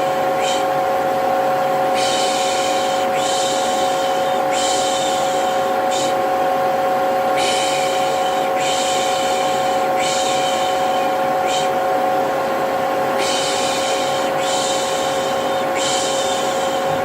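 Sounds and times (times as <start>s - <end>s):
vacuum cleaner motor whine: 0.0s - 17.0s.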